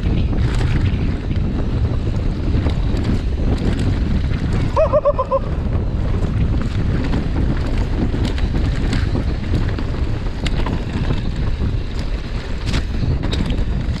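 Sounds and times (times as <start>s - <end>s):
bike rattling: 0.0s - 14.0s
tyres rumbling on dirt: 0.0s - 14.0s
wind buffeting microphone: 0.0s - 14.0s.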